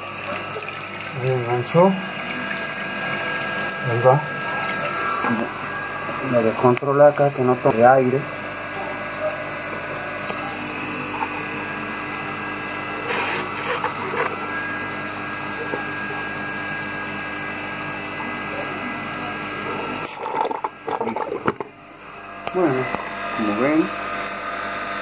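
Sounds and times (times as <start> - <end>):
electric water pump humming: 0.0 - 25.0.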